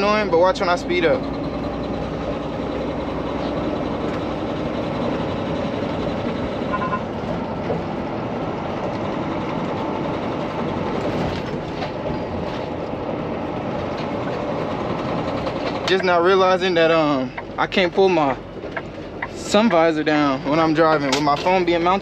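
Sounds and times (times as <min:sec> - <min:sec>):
road noise: 0:00.0 - 0:22.0
truck engine: 0:00.0 - 0:22.0.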